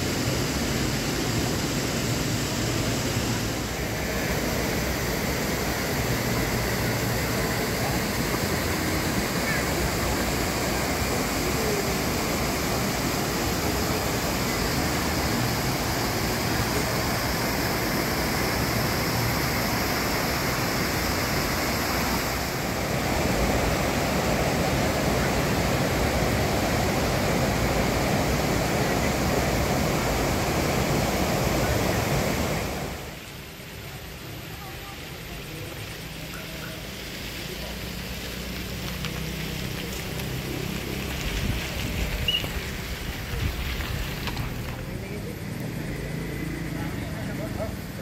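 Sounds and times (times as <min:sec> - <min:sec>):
stream and waterfall rushing: 0:00.0 - 0:47.1.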